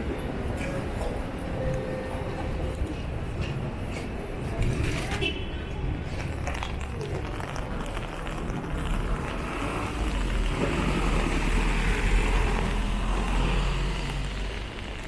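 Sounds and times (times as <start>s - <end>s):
car passing on wet street: 2.0s - 15.0s.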